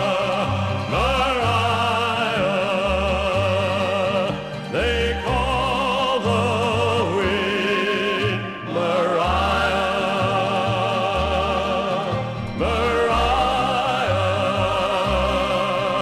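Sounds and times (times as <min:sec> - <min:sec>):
orchestral music: 0:00.0 - 0:16.0.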